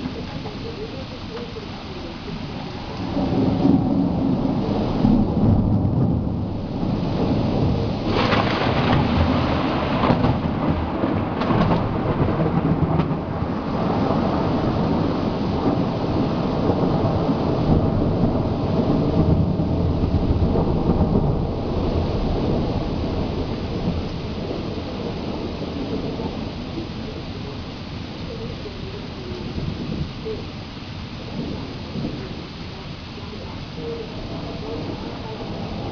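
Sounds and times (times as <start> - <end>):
steady rain: 0.0 - 35.9
thunder rumbling: 0.0 - 35.9.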